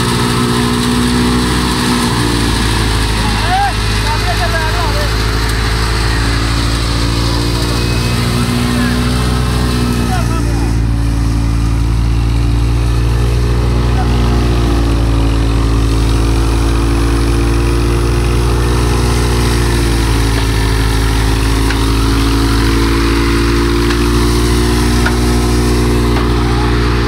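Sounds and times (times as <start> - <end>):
thresher rushing noise: 0.0 - 27.0
tractor engine hum: 0.0 - 27.0.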